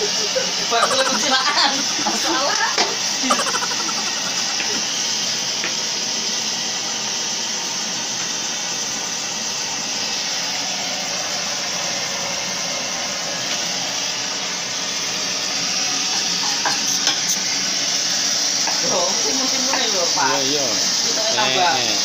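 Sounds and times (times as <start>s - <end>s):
gas burner hissing: 0.0s - 22.0s.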